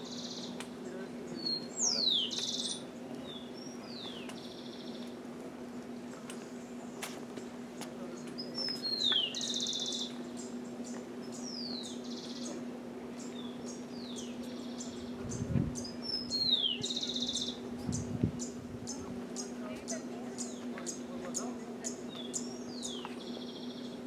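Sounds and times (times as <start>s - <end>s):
bird song whistle and buzzy trill: 0.0s - 0.6s, 1.2s - 5.2s, 8.4s - 24.0s
steady low hum: 0.0s - 24.0s.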